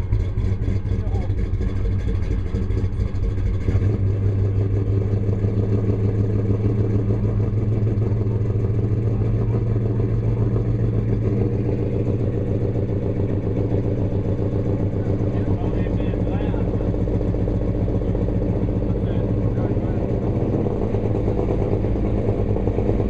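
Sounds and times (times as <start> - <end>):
car engine running steadily: 0.0 - 23.0.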